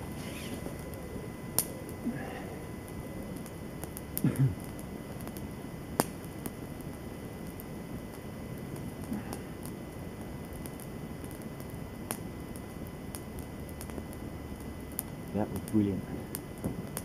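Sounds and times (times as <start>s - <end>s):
campfire crackling: 0.0s - 17.0s
fire hiss: 0.0s - 17.0s.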